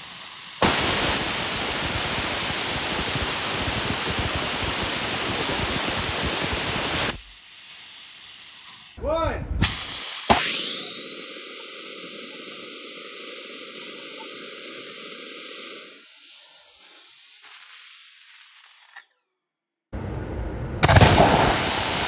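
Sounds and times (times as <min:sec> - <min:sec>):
rocket engine rushing hiss: 0:00.0 - 0:19.0, 0:20.8 - 0:22.0.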